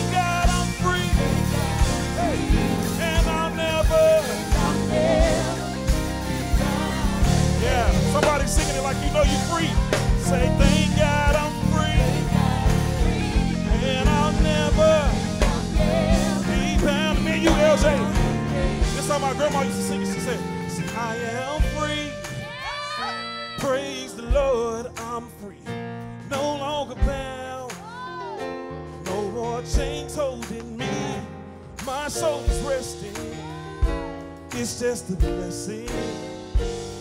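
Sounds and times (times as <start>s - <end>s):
vocalists singing with vibrato: 0.0s - 25.8s, 32.0s - 36.4s
worship band playing: 0.0s - 37.0s.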